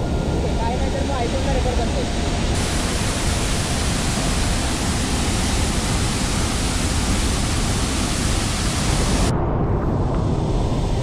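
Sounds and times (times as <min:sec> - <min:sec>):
waterfall roaring: 0:00.0 - 0:09.3.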